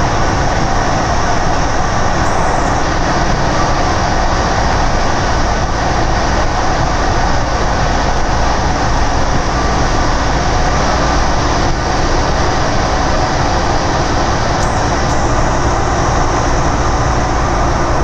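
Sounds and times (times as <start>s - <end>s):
metro car rolling and motor noise: 0.0s - 18.0s.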